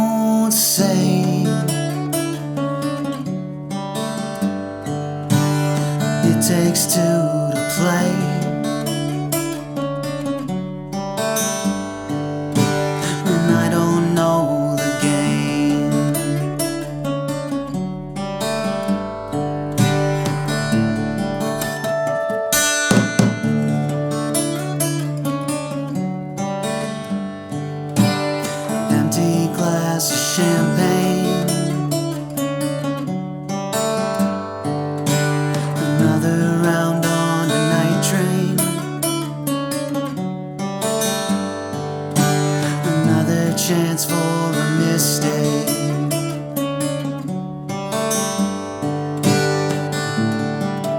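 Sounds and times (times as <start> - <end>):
acoustic guitar strumming: 0.0 - 50.9.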